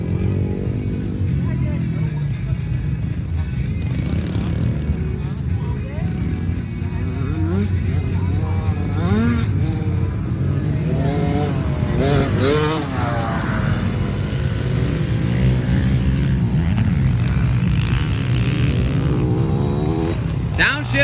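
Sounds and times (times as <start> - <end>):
motocross bike engine revving: 0.0 - 3.1, 3.8 - 21.0.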